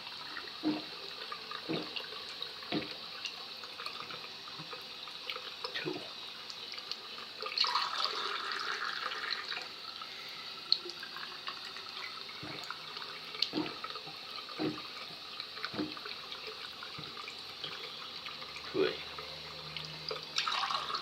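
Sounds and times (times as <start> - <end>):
tap water running and splashing: 0.0 - 21.0.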